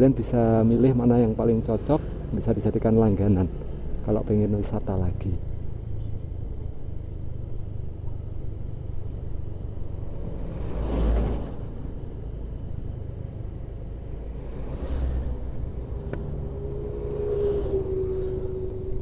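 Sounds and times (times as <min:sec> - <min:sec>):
vehicle driving rumble: 0:00.0 - 0:19.0.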